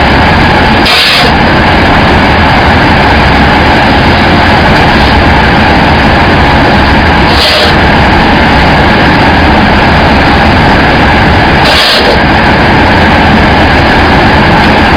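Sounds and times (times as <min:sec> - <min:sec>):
machinery droning: 0:00.0 - 0:14.9.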